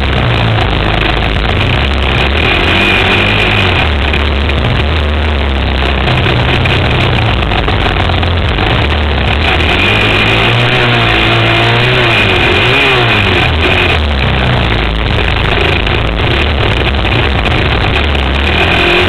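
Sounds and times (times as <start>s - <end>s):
quad engine revving: 0.0s - 19.0s
wind noise on microphone: 0.0s - 19.0s.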